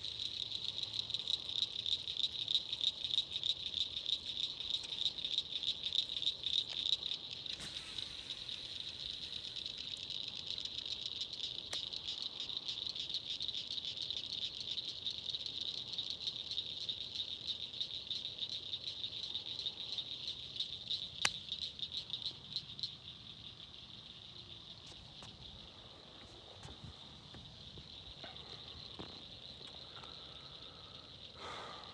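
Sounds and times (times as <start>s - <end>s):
insects trilling: 0.0s - 31.9s.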